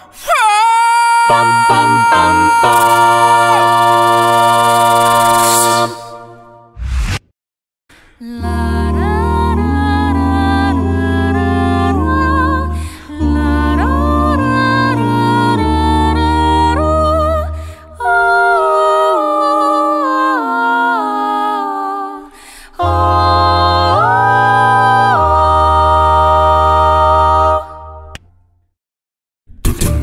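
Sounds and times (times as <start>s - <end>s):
a cappella group singing: 1.2s - 6.6s, 8.2s - 28.2s.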